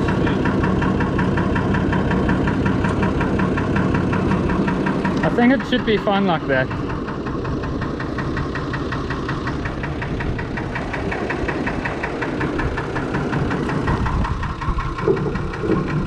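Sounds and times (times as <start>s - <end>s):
diesel engine idling with clatter: 0.0s - 16.0s.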